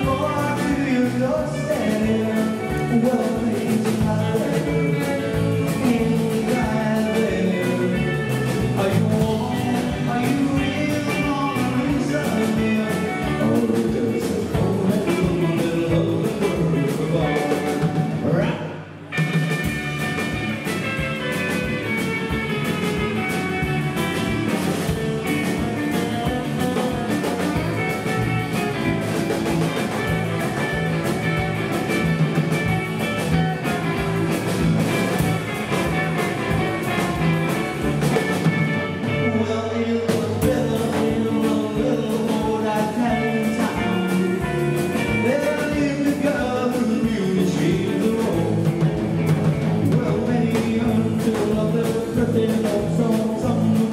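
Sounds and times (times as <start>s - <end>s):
drum kit steady beat: 0.0s - 18.4s, 19.1s - 39.4s, 40.1s - 53.9s
bass guitar: 0.0s - 53.9s
electric guitars: 0.0s - 53.9s.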